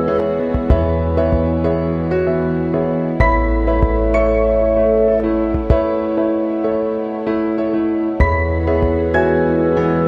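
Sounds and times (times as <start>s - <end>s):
new-age background music: 0.0s - 10.0s.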